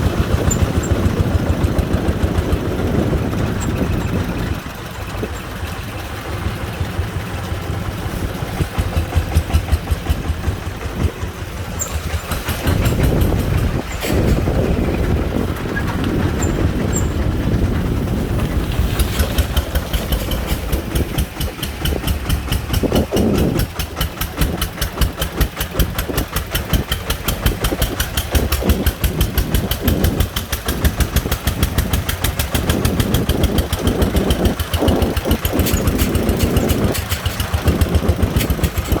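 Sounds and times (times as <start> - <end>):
diesel engine chugging: 0.0 - 39.0.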